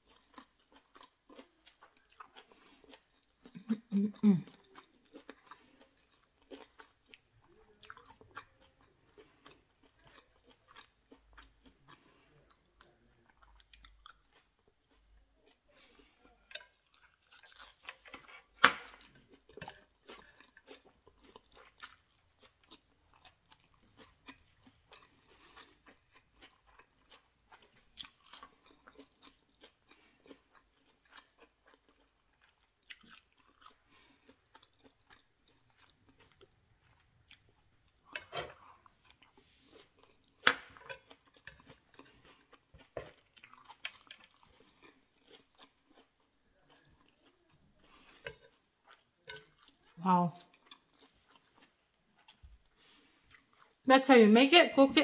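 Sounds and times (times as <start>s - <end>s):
person chewing food: 0.0s - 53.9s.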